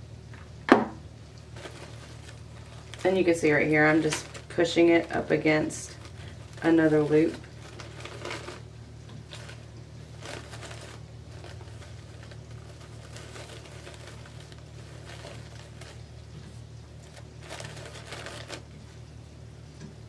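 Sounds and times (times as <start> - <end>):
steady low hum: 0.0 - 20.0
mesh rustling and crinkling: 1.3 - 19.2.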